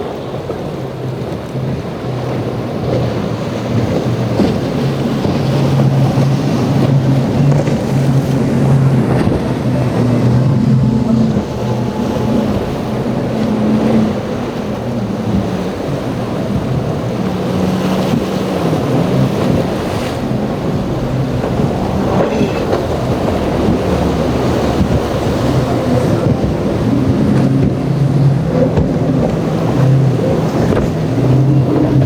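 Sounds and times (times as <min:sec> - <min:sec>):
outboard boat engines: 0:00.0 - 0:32.0
waves washing: 0:00.0 - 0:32.0
wind on microphone: 0:00.0 - 0:32.0.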